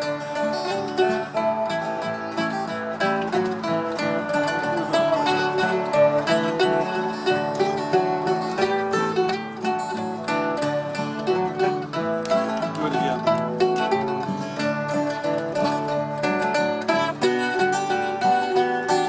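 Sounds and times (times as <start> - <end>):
acoustic guitar strumming: 0.0 - 19.0
mandolin picking: 0.0 - 19.0.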